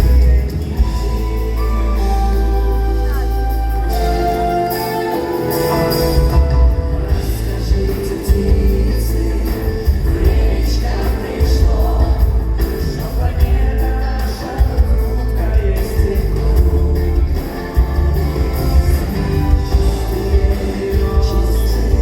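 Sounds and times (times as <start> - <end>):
heavy bass: 0.0 - 22.0
live pop band with singing: 0.0 - 22.0.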